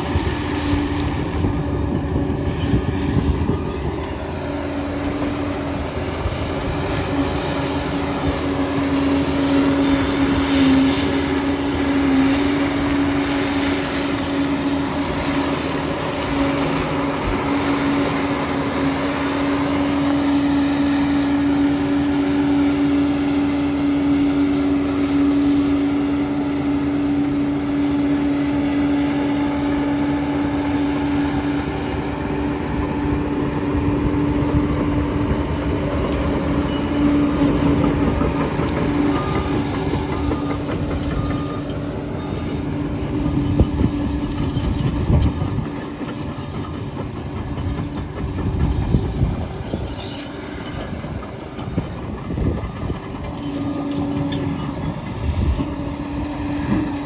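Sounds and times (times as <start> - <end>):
diesel engine droning: 0.0 - 57.0
steady whine: 0.0 - 57.0.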